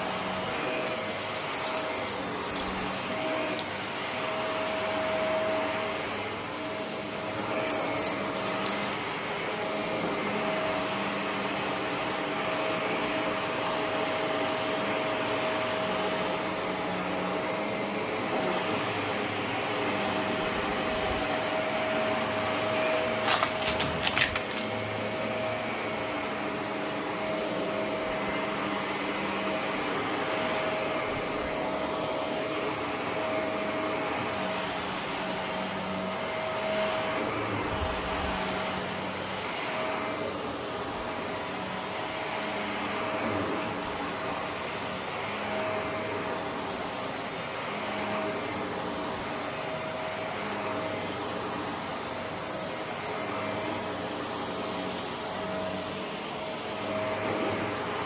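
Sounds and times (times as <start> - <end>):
vacuum cleaner running on rug: 0.0 - 58.0.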